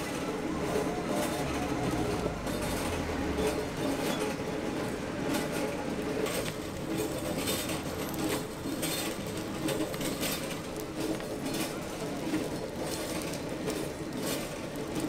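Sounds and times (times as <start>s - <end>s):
chestnuts rattling in metal drum: 0.0s - 15.0s
roaster machine rumble: 0.0s - 15.0s.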